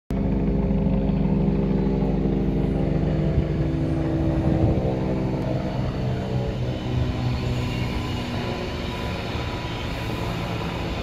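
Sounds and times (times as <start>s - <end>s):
electric train mechanical hum: 0.9s - 11.0s.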